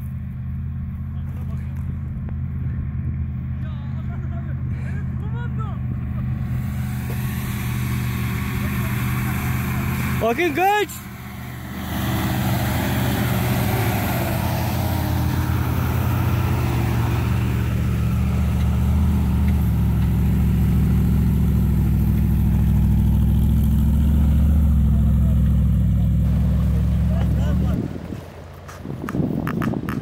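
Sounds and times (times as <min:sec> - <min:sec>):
off-road engines climbing: 0:00.0 - 0:30.0.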